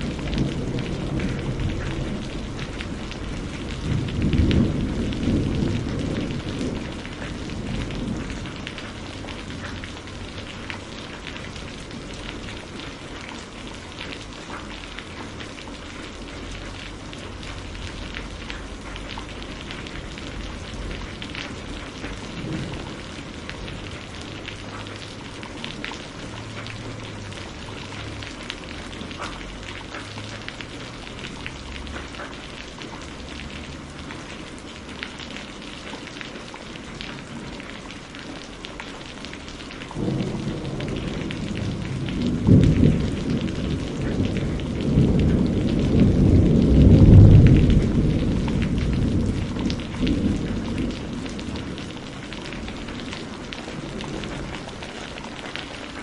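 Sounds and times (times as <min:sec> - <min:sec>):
thunder rumble: 0:00.0 - 0:13.9, 0:14.8 - 0:34.9, 0:39.4 - 0:56.0
steady rain falling: 0:00.0 - 0:56.0.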